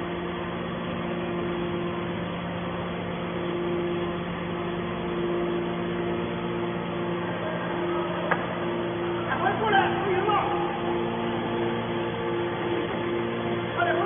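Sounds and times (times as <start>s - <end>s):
higher machine tone: 0.0s - 14.0s
machine hum: 0.0s - 14.0s.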